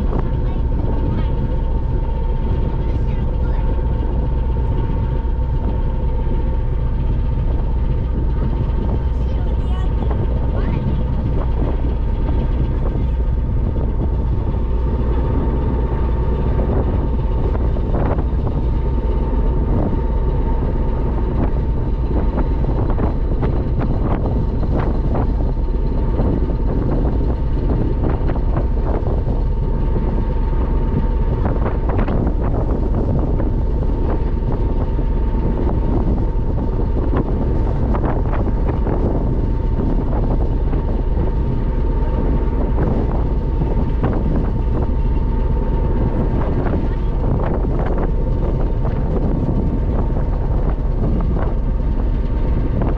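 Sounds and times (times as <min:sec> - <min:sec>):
ferry engine droning: 0:00.0 - 0:52.9.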